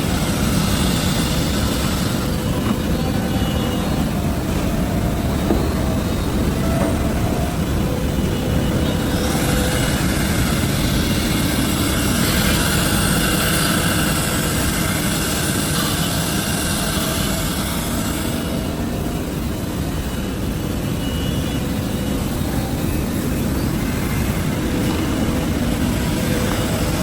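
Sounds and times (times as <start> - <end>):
cnc router cutting wood: 0.0 - 27.0.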